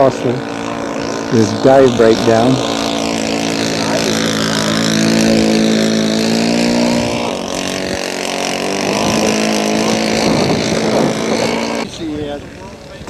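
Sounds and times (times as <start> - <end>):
model airplane engine flyby: 0.0 - 13.0.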